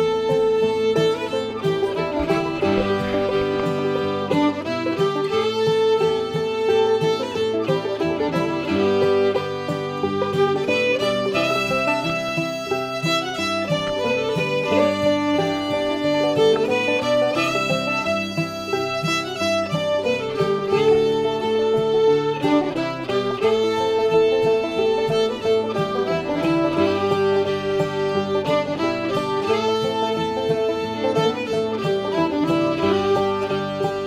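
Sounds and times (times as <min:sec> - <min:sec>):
acoustic guitar: 0:00.0 - 0:34.0
fiddle melody: 0:00.0 - 0:34.0.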